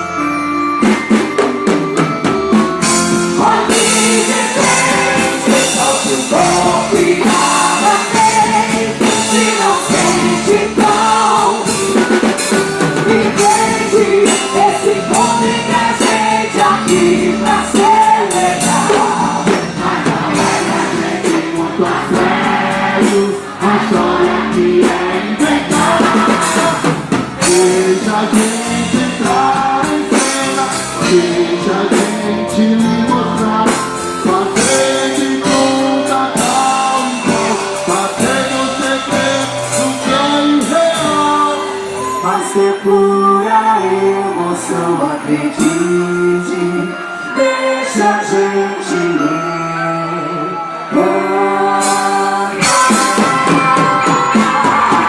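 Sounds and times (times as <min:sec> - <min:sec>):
steady percussion beat: 0:00.0 - 0:43.2, 0:51.8 - 0:55.0
loud music with singing: 0:00.0 - 0:55.0.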